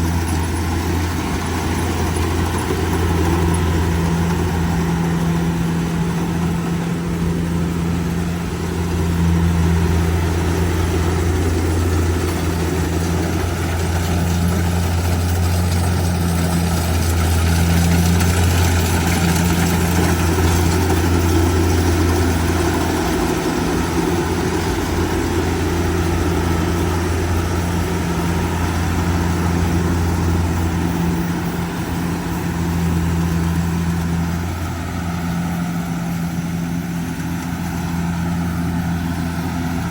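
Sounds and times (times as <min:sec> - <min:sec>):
diesel engine humming: 0:00.0 - 0:39.9
machinery noise: 0:00.0 - 0:39.9.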